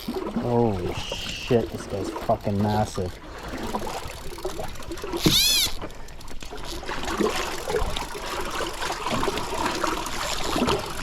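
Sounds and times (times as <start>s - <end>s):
river water trickling: 0.0s - 11.0s
small knocks and splashes: 0.0s - 11.0s.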